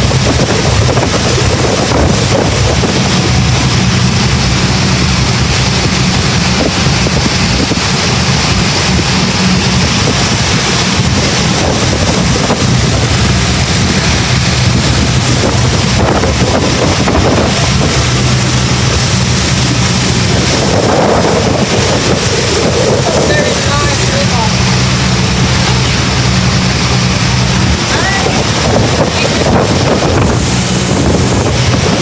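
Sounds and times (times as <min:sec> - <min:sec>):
boat motor humming: 0:00.0 - 0:32.0
wind on microphone: 0:00.0 - 0:32.0.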